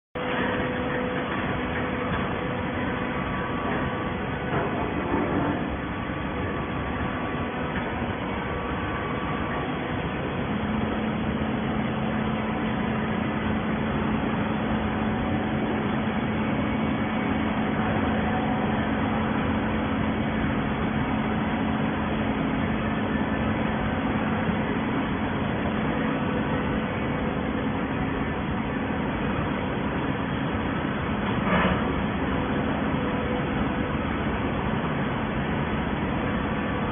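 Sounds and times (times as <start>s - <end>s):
baler machine noise: 0.2s - 36.9s
steady hum: 0.2s - 36.9s.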